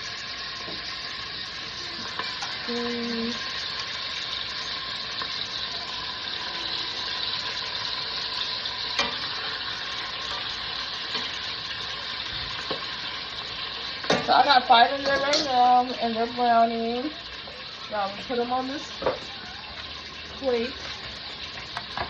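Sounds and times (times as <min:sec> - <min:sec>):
chicken sizzling in a pot: 0:00.0 - 0:22.0.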